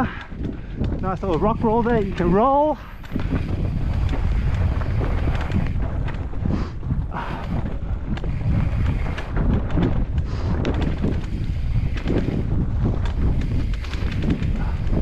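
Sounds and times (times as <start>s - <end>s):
bike rattling over rocks: 0.0s - 15.0s
tyres rumbling on dirt: 0.0s - 15.0s
wind buffeting microphone: 0.0s - 15.0s.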